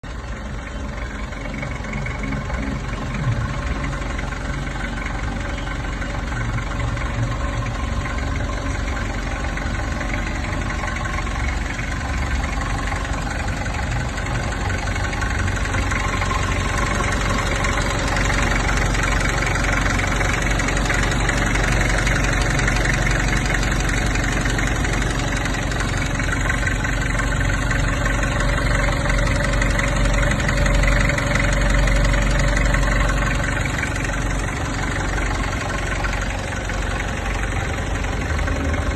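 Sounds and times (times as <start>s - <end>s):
diesel forklift engine running: 0.0s - 38.9s.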